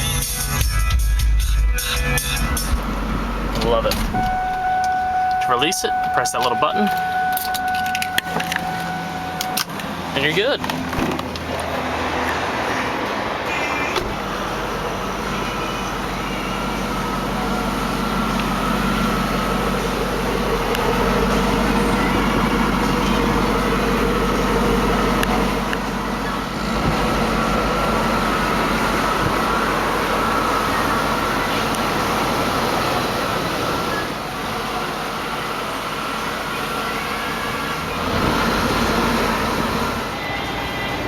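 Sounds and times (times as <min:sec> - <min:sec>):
motor vehicle noise: 0:00.0 - 0:41.0.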